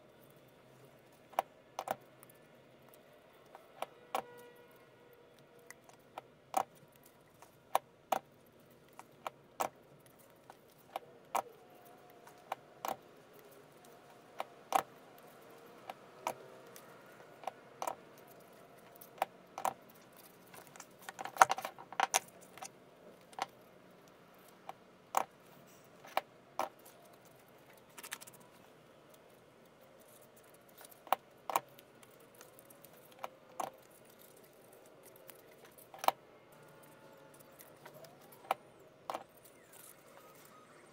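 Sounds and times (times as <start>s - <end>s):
paper petals clicking and tapping: 0.1s - 40.6s.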